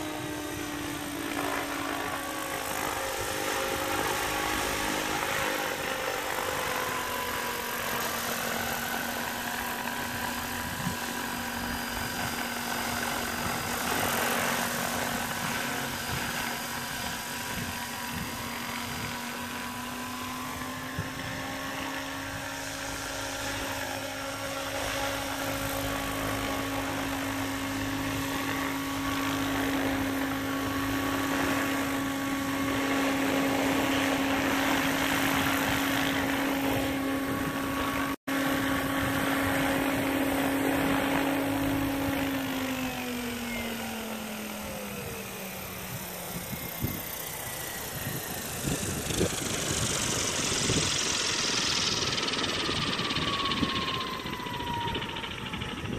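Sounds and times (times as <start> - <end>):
rc helicopter motor whine: 0.0 - 55.9.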